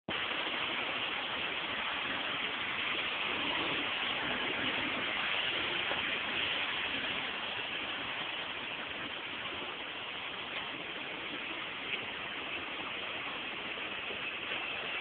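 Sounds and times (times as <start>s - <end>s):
rushing water: 0.1s - 15.0s.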